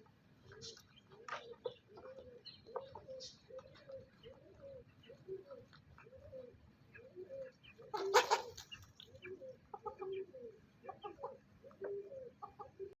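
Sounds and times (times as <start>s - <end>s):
hen clucking: 0.4s - 13.0s.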